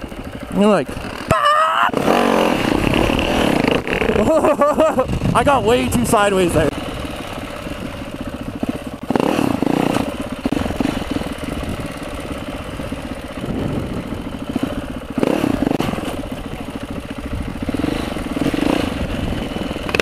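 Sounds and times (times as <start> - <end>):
motorcycle engine revving: 0.0 - 20.0
motorcycle engine running: 0.0 - 20.0.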